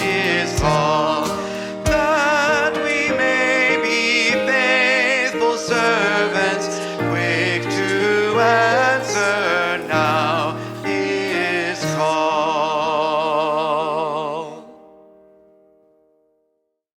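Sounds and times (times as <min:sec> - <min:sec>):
hymn singing with accompaniment: 0:00.0 - 0:14.9.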